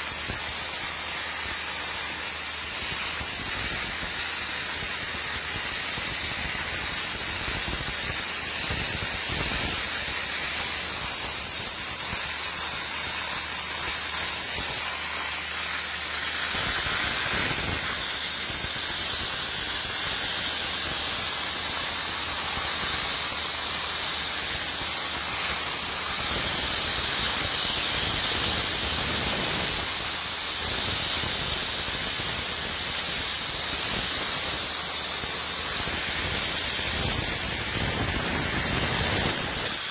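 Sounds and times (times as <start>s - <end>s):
dry ice blasting gun hissing: 0.0s - 39.9s.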